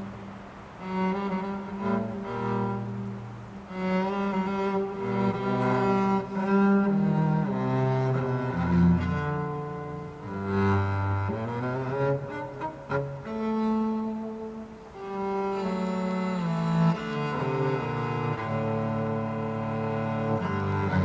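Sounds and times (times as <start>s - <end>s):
slow bowed cello notes: 0.0s - 21.0s.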